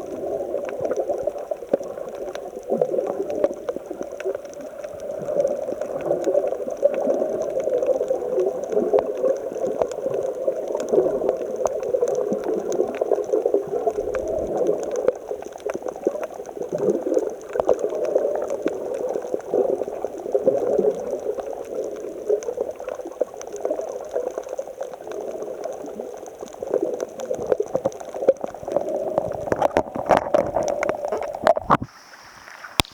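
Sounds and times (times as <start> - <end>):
sea water sloshing among rocks: 0.0 - 32.9.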